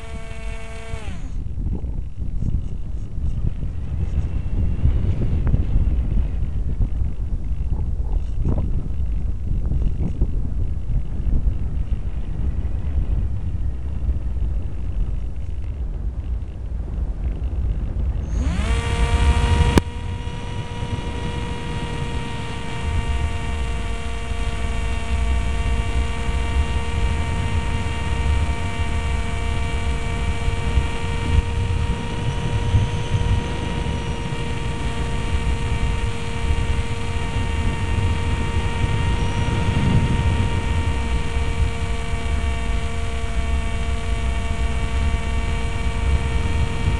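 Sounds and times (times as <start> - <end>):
electric motor and propeller whine: 0.0 - 46.9
wind rumble on microphone: 0.0 - 46.9.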